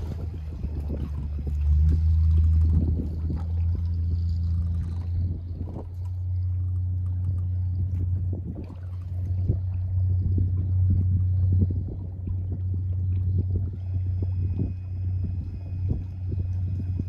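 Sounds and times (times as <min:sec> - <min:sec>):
boat engine humming: 0:00.0 - 0:17.0
water splashing against hull: 0:00.0 - 0:17.0.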